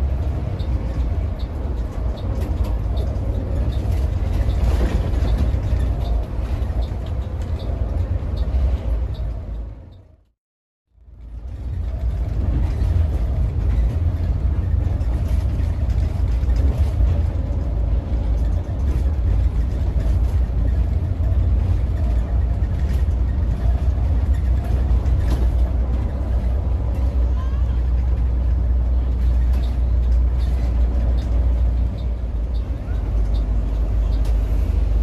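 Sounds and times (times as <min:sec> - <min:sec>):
coach engine and road rumble: 0:00.0 - 0:35.0.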